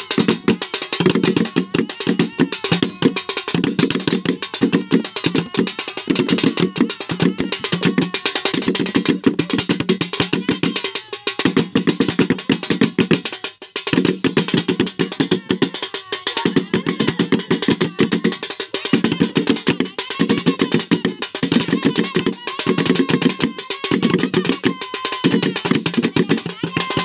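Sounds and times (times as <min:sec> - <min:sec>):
fast improvised drumming: 0:00.0 - 0:27.0.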